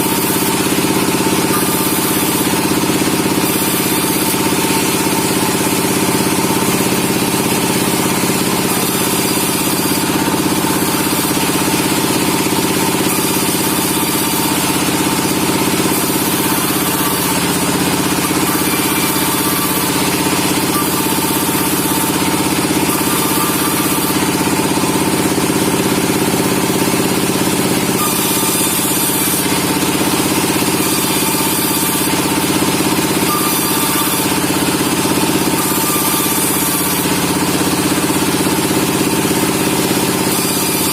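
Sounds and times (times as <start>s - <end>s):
sawmill machinery hum: 0.0s - 40.9s.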